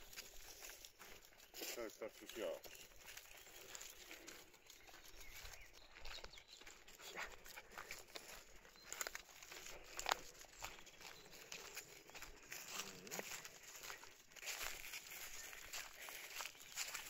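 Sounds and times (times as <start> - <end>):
footsteps through dry leaves: 0.0 - 17.0.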